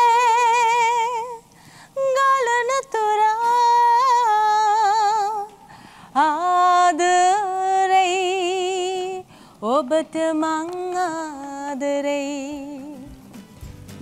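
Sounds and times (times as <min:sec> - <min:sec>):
woman singing unaccompanied: 0:00.0 - 0:13.4.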